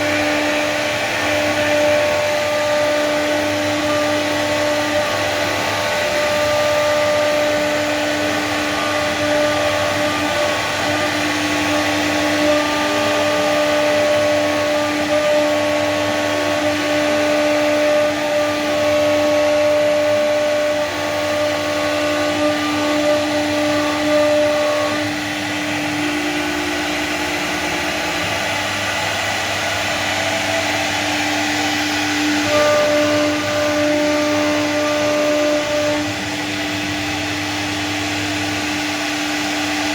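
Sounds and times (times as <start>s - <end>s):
hiss of carving plastic board: 0.0s - 39.9s
router spindle motor whining: 0.0s - 39.9s.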